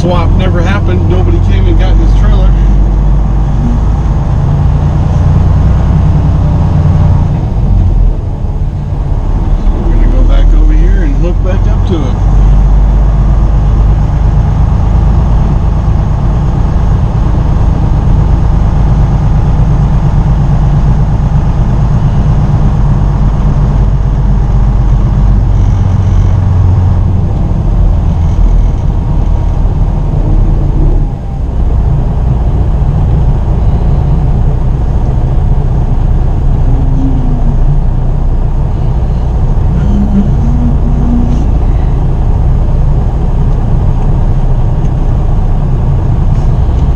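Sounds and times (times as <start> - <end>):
truck diesel engine rumble: 0.0 - 46.9.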